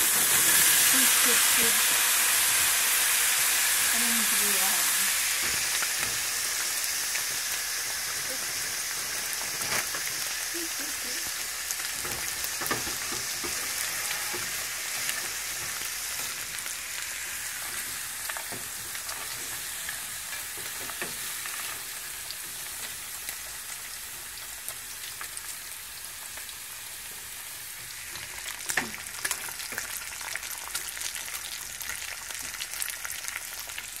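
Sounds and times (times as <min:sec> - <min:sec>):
bacon sizzling in a pan: 0:00.0 - 0:34.0.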